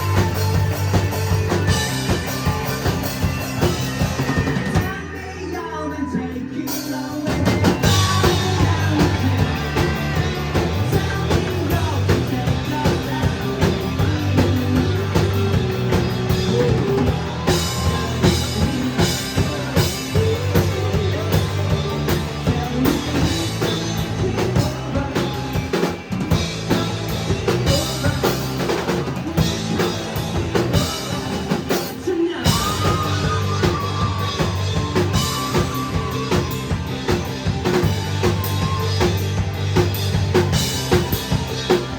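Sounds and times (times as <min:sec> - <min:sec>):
drum kit beat: 0:00.0 - 0:05.2, 0:06.7 - 0:41.9
person singing: 0:00.0 - 0:39.3
bass line: 0:00.0 - 0:41.9.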